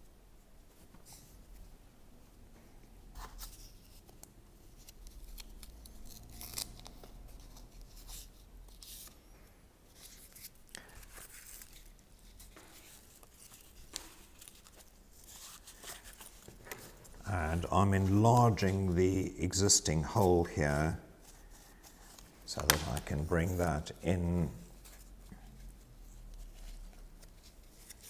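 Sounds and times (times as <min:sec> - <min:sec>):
cord and cardboard rustling: 0:02.5 - 0:28.0.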